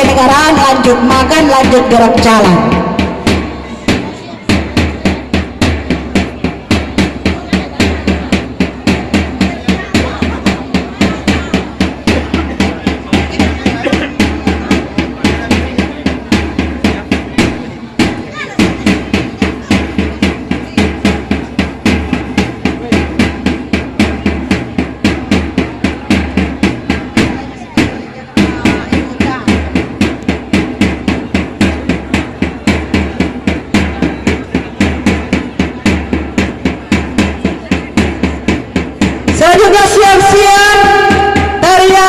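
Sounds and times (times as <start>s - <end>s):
drum beating steady rhythm: 0.0s - 42.0s.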